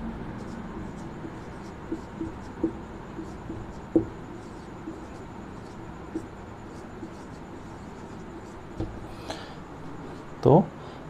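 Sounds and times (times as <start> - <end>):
marker scratching on whiteboard: 0.1 - 9.2.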